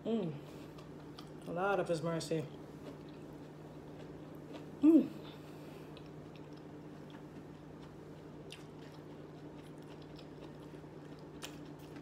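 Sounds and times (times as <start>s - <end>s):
steady low hum: 0.0s - 12.0s
quiet chewing: 0.5s - 1.6s, 2.5s - 12.0s.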